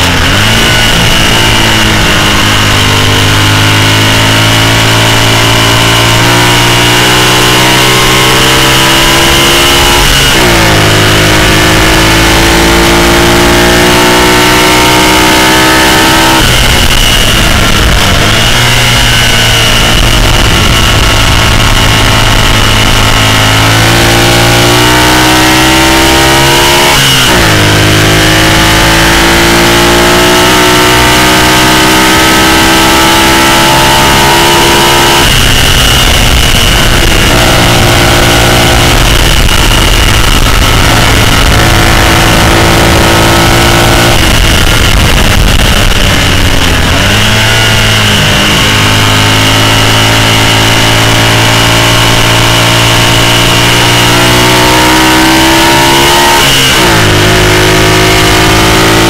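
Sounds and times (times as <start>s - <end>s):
racing engine accelerating: 0.0s - 59.0s.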